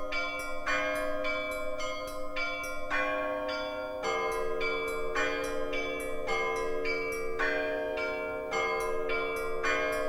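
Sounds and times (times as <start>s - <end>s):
small church bells ringing: 0.0s - 10.0s.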